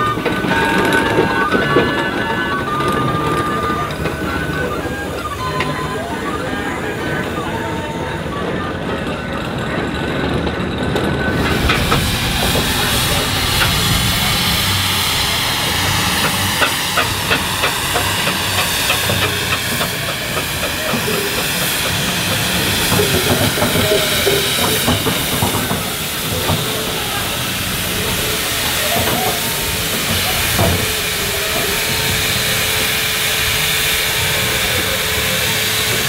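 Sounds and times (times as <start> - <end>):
steam hissing: 0.0 - 8.7, 11.0 - 36.0
steam exhaust chuffing: 0.0 - 36.0.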